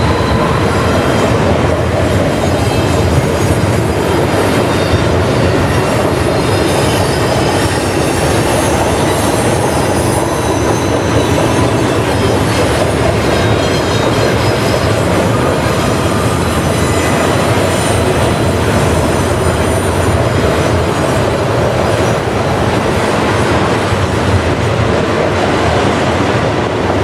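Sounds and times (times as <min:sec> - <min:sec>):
high wheel squeal: 0:00.0 - 0:24.2
freight train wheels rumbling: 0:00.0 - 0:27.0.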